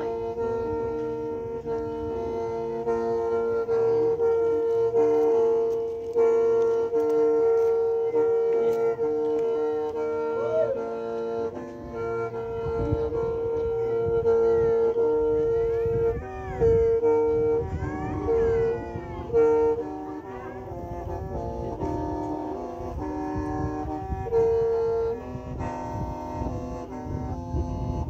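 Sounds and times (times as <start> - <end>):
free-reed mouth organ tune: 0.0 - 28.0
held drone: 0.0 - 28.0.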